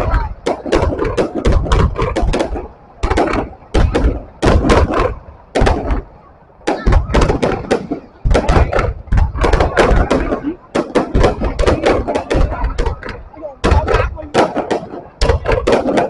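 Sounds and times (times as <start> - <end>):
deep firework boom: 0.0 - 16.0
fireworks bangs and cracks: 0.0 - 16.0.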